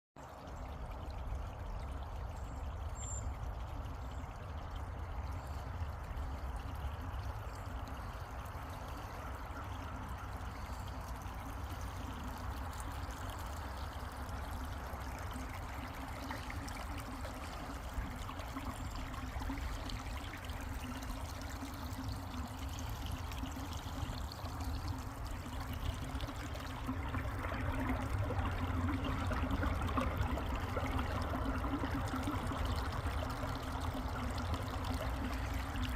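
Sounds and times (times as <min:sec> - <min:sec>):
creek water rushing: 0:03.4 - 0:35.9.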